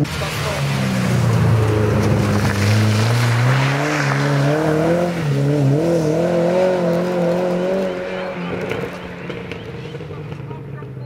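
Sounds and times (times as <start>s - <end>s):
gravel spraying from tyres: 0.0s - 10.4s
rally car engine accelerating: 0.0s - 11.0s.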